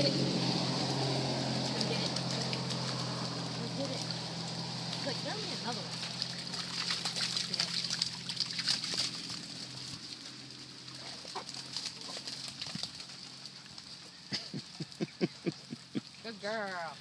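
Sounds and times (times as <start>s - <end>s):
dogs splashing through water: 0.0s - 17.0s.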